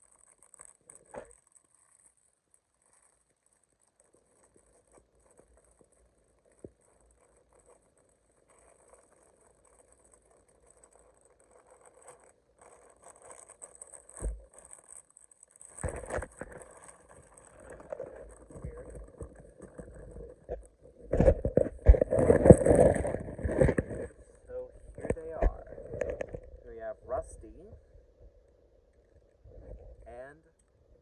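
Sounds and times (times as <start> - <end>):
handling rustling and clicks: 0.0 - 26.6.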